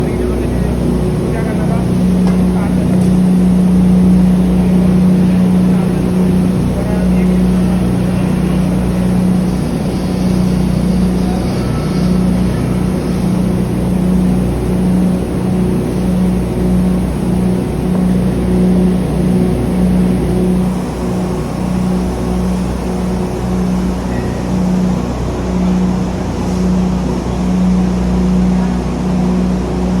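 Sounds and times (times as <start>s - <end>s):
pulveriser machine whirring: 0.0s - 30.0s.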